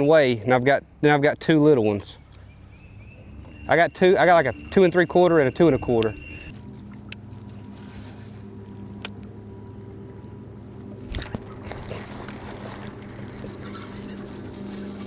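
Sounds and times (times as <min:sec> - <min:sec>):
electric trolling motor hum: 0:02.4 - 0:15.0.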